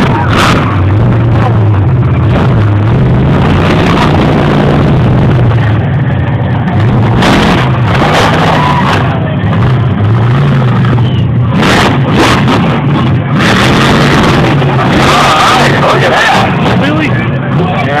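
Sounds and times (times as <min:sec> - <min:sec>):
truck engine revving loudly: 0:00.0 - 0:18.0.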